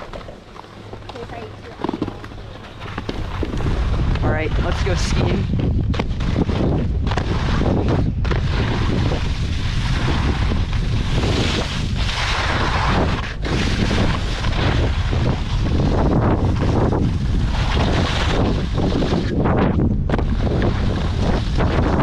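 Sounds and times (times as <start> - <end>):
skis scraping on packed snow: 0.0 - 22.0
wind buffeting microphone: 0.0 - 22.0.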